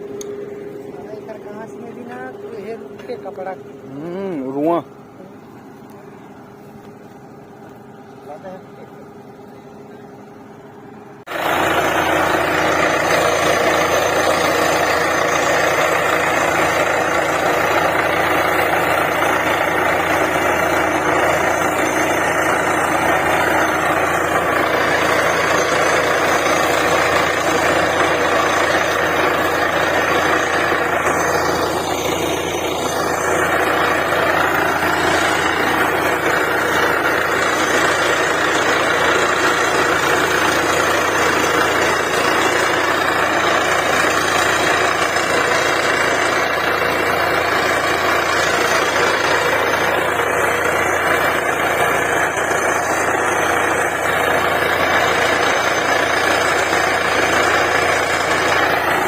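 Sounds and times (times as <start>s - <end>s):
diesel engine and compressor noise: 0.0s - 59.0s
low engine hum: 0.0s - 59.0s.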